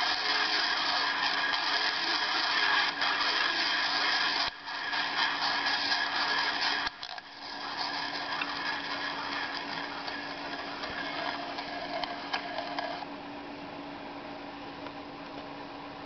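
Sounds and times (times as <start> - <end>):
record clicks: 0.0 - 13.0
faint steady hum: 0.0 - 16.0
record hiss: 0.0 - 16.0.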